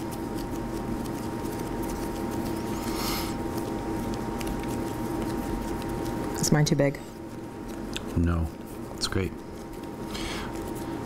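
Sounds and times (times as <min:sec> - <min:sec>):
hands working dough: 0:00.0 - 0:11.0
steady hum with fixed tones: 0:00.0 - 0:11.0.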